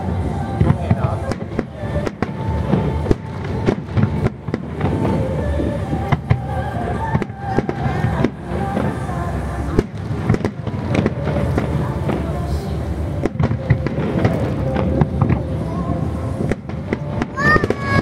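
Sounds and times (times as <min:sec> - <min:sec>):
fireworks bursting with bangs: 0:00.0 - 0:18.0.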